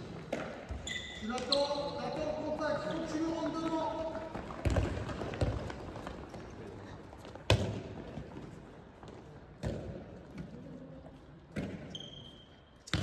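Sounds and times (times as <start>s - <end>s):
ball thumping with hall echo: 0.0s - 13.0s.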